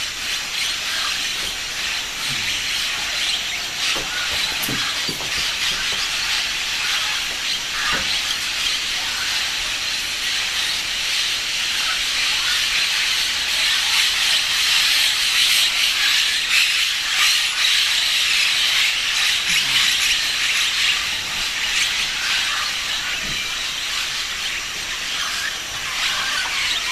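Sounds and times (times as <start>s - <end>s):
flock of parrots calling: 0.0s - 26.9s.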